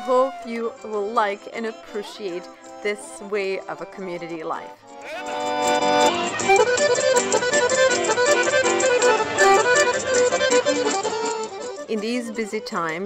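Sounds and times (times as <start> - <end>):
accordion-led folk band playing: 0.0 - 13.0.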